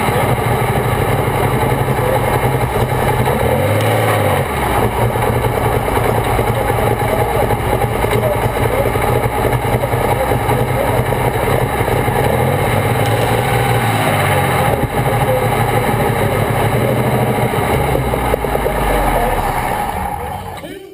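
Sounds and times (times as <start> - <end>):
tractor engine at low revs: 0.0 - 20.9.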